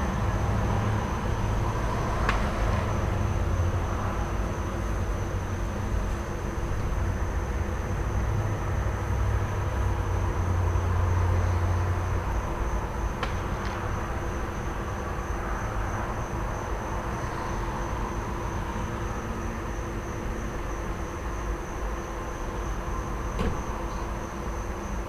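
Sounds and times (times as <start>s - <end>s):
crickets chirping: 0.0s - 25.0s
traffic: 0.0s - 25.0s.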